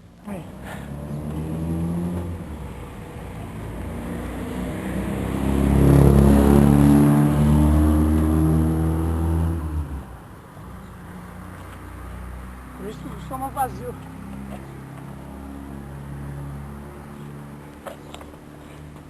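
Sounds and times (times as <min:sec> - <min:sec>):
vehicle engine passing by: 0:00.3 - 0:10.2, 0:11.2 - 0:19.0.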